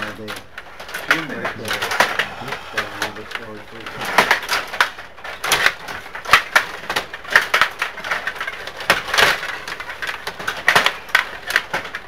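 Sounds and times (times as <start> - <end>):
table hockey plastic clatter: 0.0 - 12.0.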